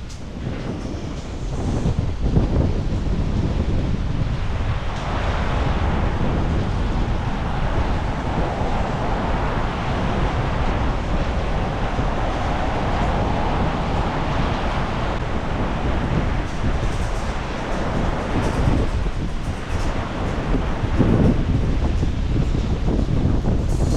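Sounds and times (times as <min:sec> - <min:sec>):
strong wind buffeting microphone: 0:00.0 - 0:23.9.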